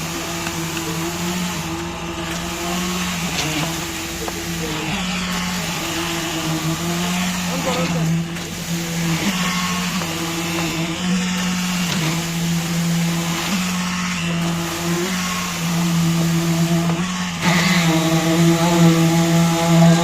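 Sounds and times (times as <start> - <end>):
concrete pump engine humming: 0.0 - 20.0.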